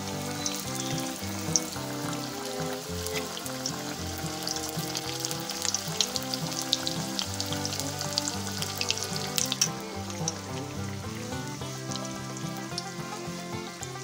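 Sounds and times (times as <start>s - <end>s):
background music: 0.0s - 14.0s
deep-frying sizzle with crackling pops: 0.0s - 14.0s.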